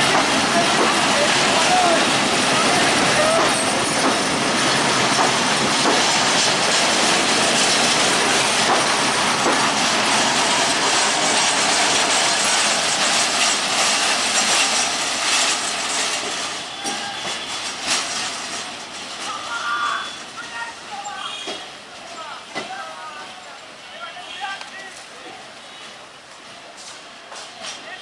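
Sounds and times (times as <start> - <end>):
train coaches rumbling past: 0.0 - 28.0.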